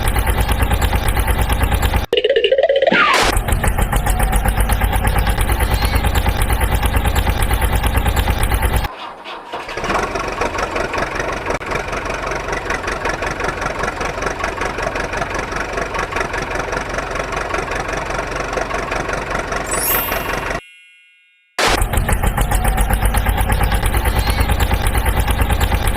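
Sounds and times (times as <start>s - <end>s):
engine chugging fast: 0.0s - 2.1s, 3.3s - 20.6s, 21.6s - 25.9s
second engine running: 0.0s - 2.1s, 3.3s - 8.9s, 9.8s - 20.6s, 21.6s - 25.9s.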